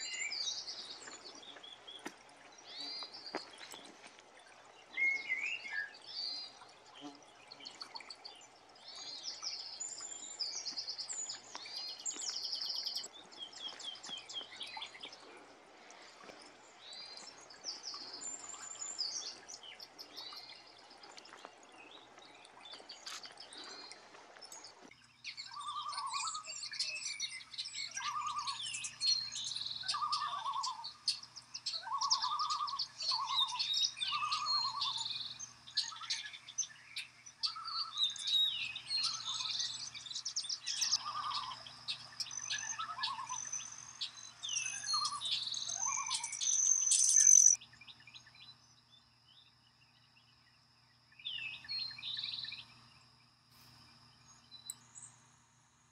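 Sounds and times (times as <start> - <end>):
background hiss: 0.0 - 55.9
songbirds chirping and trilling: 0.0 - 55.9.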